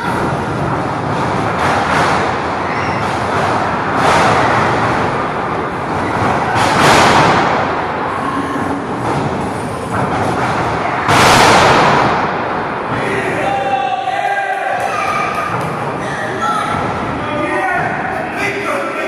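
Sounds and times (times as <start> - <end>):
crowd din in large hall: 0.0 - 19.0.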